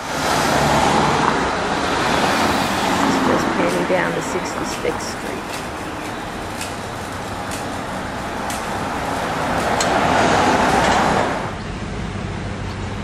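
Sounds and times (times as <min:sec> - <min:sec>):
low traffic hum: 0:00.0 - 0:13.0
vehicle passing close by: 0:00.0 - 0:13.0.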